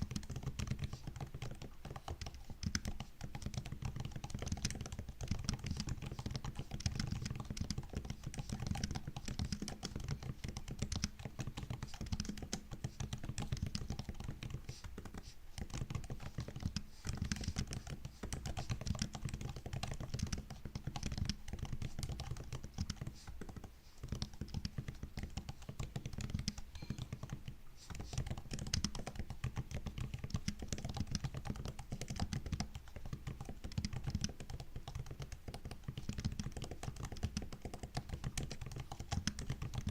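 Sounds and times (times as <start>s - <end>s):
fast typing on laptop keyboard: 0.0s - 39.9s.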